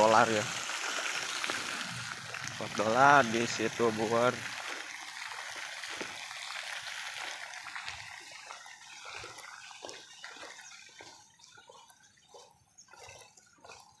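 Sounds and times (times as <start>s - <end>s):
water trickling and splashing: 0.0s - 14.0s
small drips and clicks: 0.1s - 14.0s.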